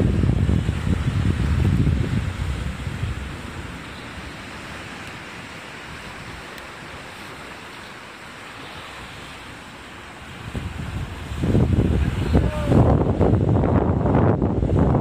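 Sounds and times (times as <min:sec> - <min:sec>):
sea surf washing against rocks: 0:00.0 - 0:15.0.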